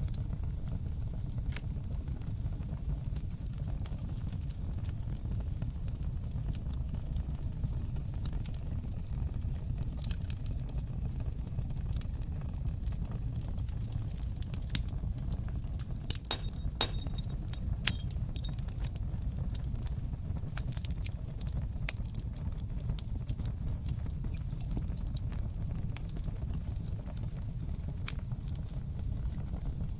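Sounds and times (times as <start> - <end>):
fire crackling and popping: 0.0 - 29.9.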